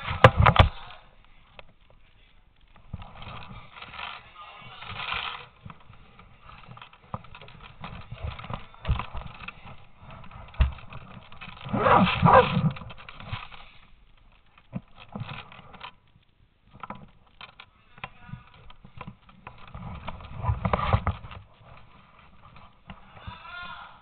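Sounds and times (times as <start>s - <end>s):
clothing rustling: 1.7s - 23.1s.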